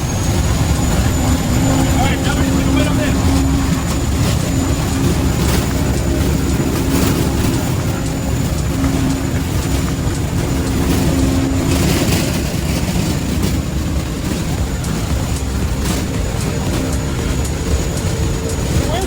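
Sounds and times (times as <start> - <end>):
aircraft engine drone with whine: 0.0 - 19.0.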